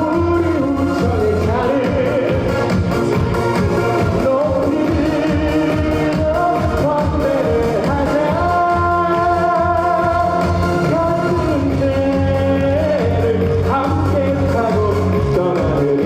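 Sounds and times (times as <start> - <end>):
backing music with steady beat: 0.0 - 16.0.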